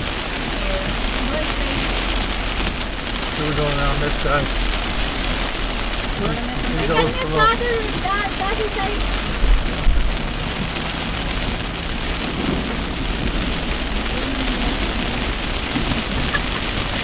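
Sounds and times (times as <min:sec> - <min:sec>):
heavy rain drumming on car: 0:00.0 - 0:17.0
low engine and road rumble: 0:00.0 - 0:17.0.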